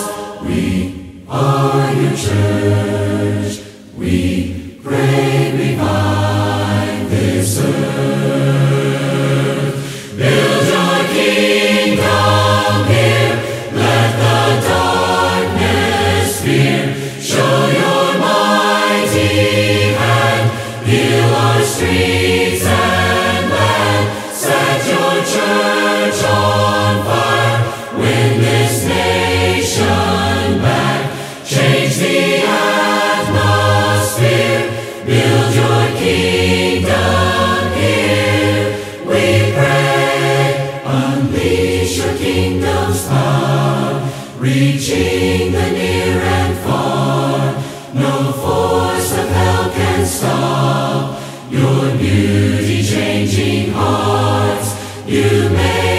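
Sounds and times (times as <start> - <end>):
choir singing: 0.0 - 55.9.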